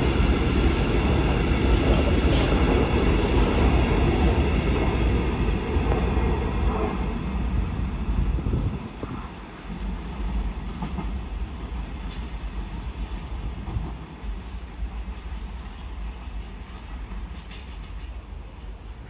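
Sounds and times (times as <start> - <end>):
train rumbling by: 0.0 - 19.0.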